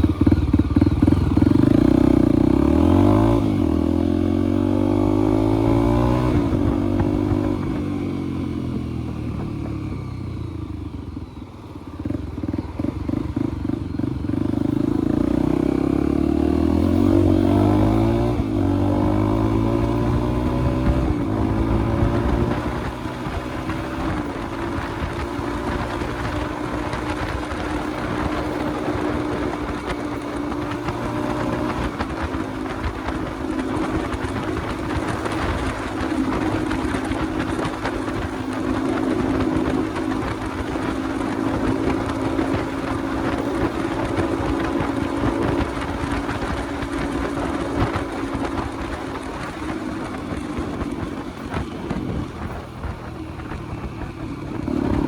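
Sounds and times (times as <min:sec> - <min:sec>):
wind on microphone: 0:00.0 - 0:10.8, 0:13.1 - 0:55.0
motorcycle engine cruising: 0:00.0 - 0:55.0.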